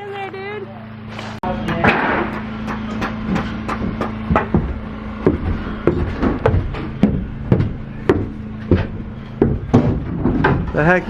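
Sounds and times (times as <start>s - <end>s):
steady low hum: 0.0s - 11.0s
hammer knocking on wood: 1.7s - 10.9s.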